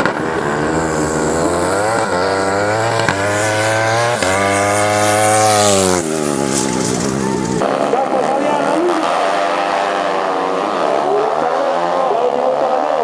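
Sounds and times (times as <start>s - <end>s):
racing motorcycle engine accelerating: 0.0s - 13.0s.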